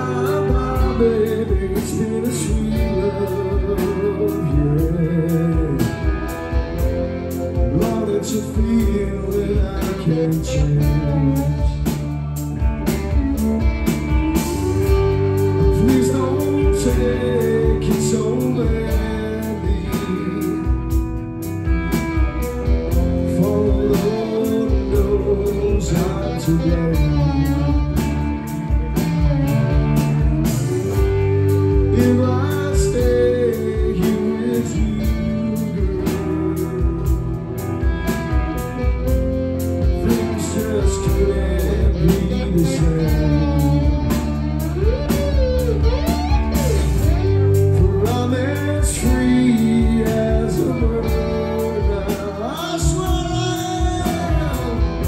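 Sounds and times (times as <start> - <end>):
blues harmonica: 0.0 - 55.0
drums: 0.0 - 55.0
electric guitar: 0.0 - 55.0.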